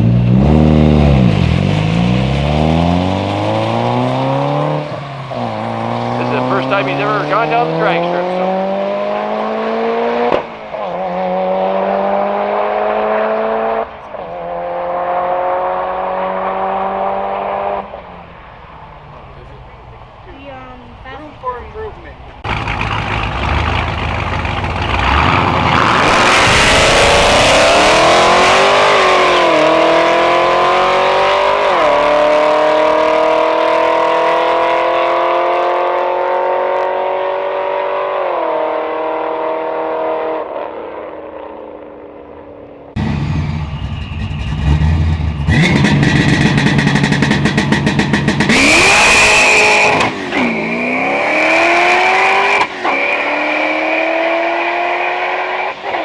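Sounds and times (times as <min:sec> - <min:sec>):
car engine revving and launching: 0:00.0 - 0:19.4, 0:22.4 - 0:56.0
drag car engine accelerating: 0:00.0 - 0:20.2, 0:22.2 - 0:56.0.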